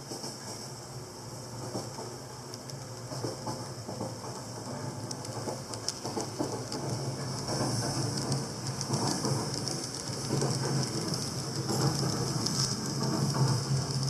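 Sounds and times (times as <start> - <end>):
train rumble and hum: 0.0 - 14.0
wheels clicking over rail joints: 1.6 - 14.0.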